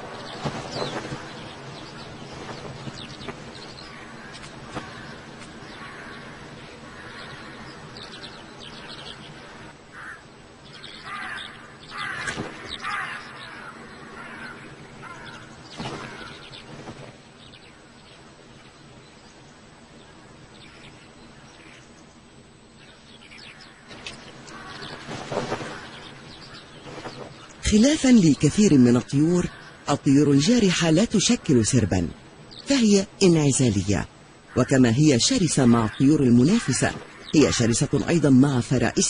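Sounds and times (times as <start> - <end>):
harsh bird calls: 0.0 - 39.0
steady outdoor background: 0.0 - 39.0
wild birds calling: 0.0 - 39.0.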